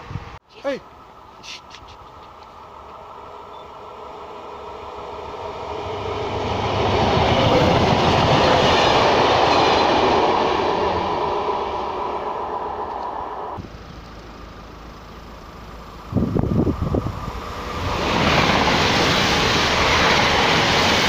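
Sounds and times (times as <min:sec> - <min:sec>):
passenger train passing: 0:00.0 - 0:21.0.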